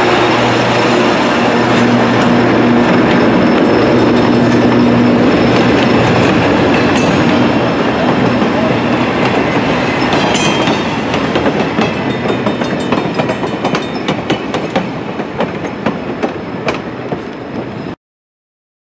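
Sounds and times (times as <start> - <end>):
train rumble: 0.0 - 18.0
train wheels clicking over rail joints: 1.4 - 17.9.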